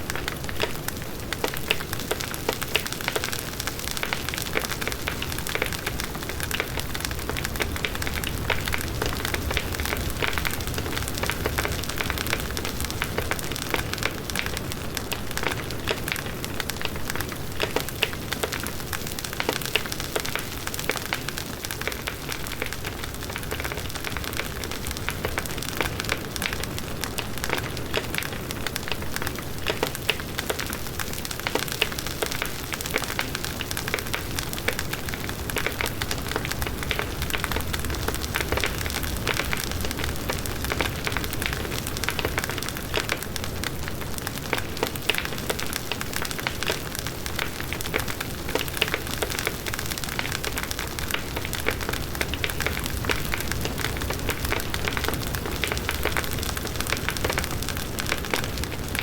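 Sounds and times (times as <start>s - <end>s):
wood crackling and popping: 0.0s - 59.0s.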